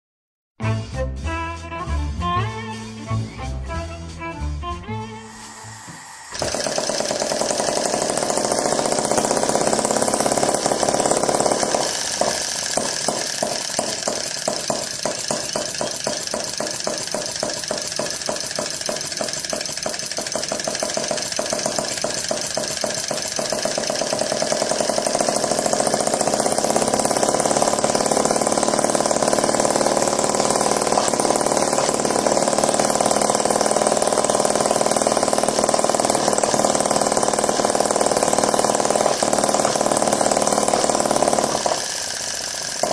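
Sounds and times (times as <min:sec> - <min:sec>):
gas engine running: 0:04.9 - 0:42.9.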